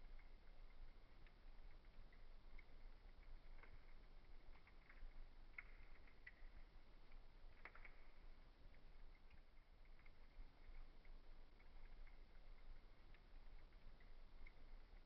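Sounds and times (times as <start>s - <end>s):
low steady hum: 0.0s - 15.0s
wood fire crackling: 0.0s - 15.0s.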